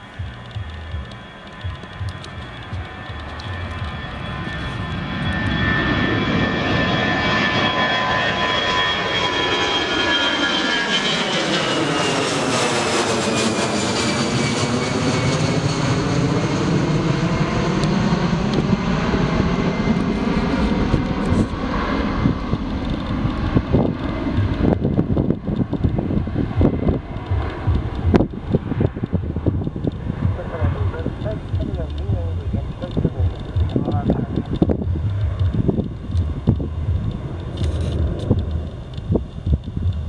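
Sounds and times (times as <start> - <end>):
deep jet rumble: 0.0 - 40.0
jet engine whine: 0.0 - 40.0.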